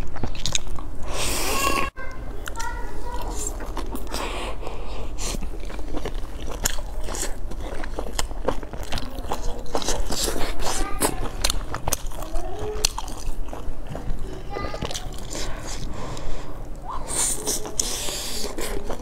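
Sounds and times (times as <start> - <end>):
chewing buns: 0.0 - 19.0.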